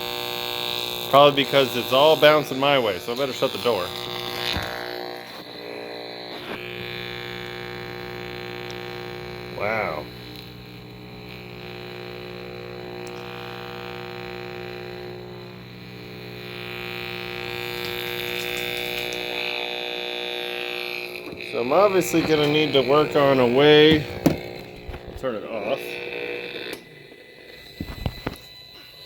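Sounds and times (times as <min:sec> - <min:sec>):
microwave oven buzzing: 0:00.0 - 0:29.0.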